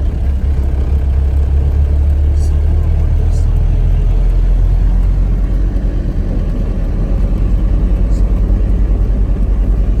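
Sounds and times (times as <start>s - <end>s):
vehicle rumble on road: 0.0s - 10.0s.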